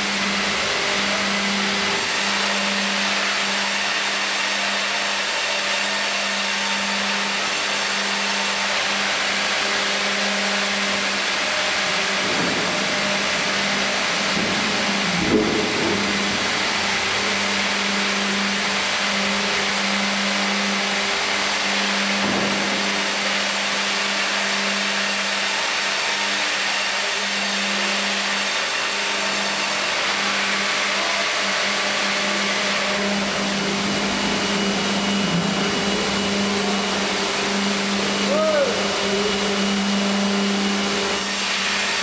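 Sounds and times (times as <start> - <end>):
sawmill motor hum: 0.0 - 42.0.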